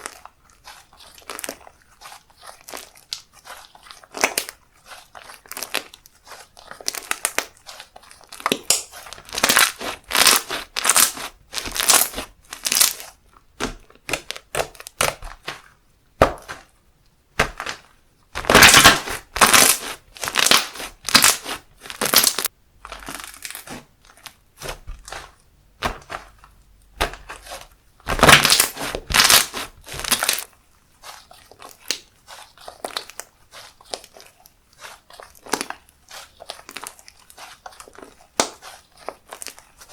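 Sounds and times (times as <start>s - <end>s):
hands squishing slime: 0.0s - 39.9s.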